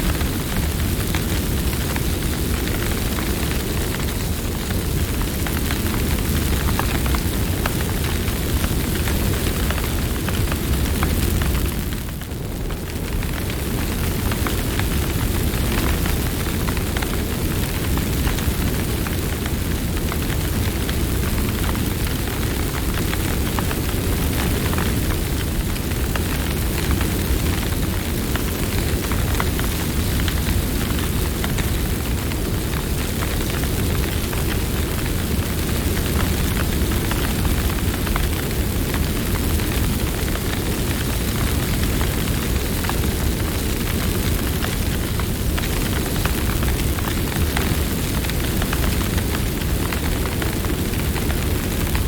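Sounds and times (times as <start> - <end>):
campfire rushing rumble: 0.0 - 52.0
wood crackling and popping: 0.1 - 52.0.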